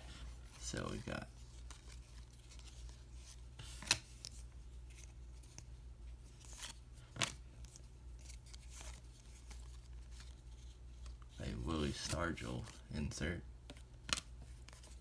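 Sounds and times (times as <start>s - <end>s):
cards rustling: 0.0s - 15.0s
low steady hum: 0.0s - 15.0s.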